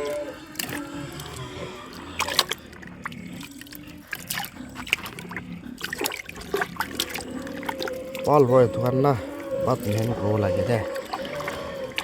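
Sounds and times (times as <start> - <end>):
pigs slurping wet feed: 0.0 - 12.0.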